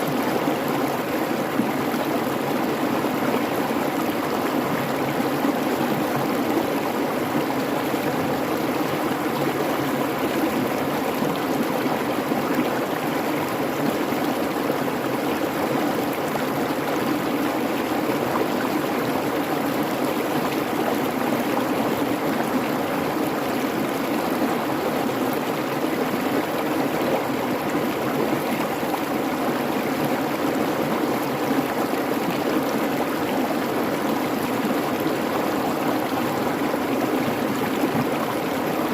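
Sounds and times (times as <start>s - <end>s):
creek rushing over rocks: 0.0s - 38.9s.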